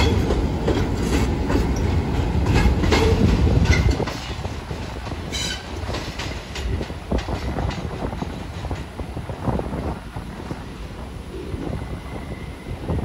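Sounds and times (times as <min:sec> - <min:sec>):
subway train wheels clacking: 0:00.0 - 0:13.0.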